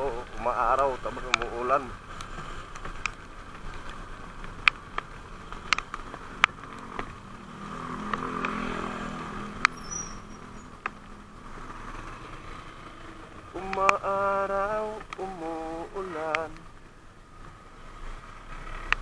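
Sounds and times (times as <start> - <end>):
motorcycle engine hum: 0.0 - 19.0
wind and road noise: 0.0 - 19.0.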